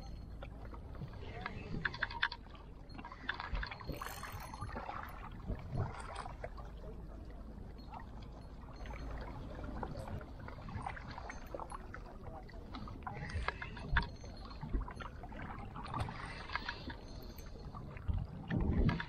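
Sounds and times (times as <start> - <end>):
waves lapping against rocks: 0.0 - 19.0.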